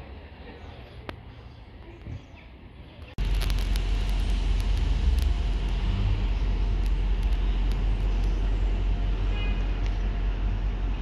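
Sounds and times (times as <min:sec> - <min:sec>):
train engine rumble: 0:00.0 - 0:11.0.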